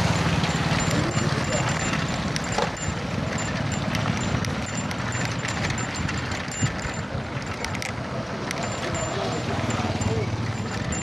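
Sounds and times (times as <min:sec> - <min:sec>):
low rumble of travel on dirt road: 0:00.0 - 0:11.0.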